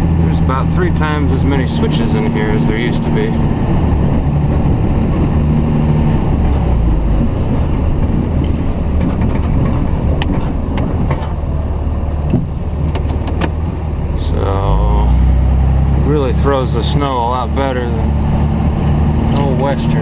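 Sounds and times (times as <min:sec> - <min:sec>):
diesel truck engine under load: 0:00.0 - 0:20.0.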